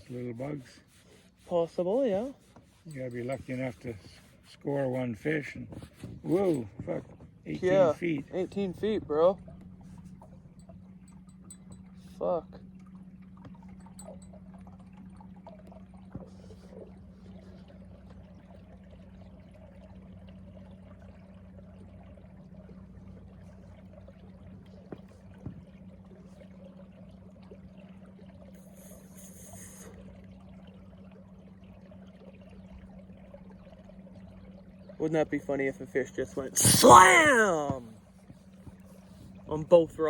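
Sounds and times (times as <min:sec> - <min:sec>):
boat motor humming: 0:00.0 - 0:40.0
water trickling along hull: 0:00.0 - 0:40.0.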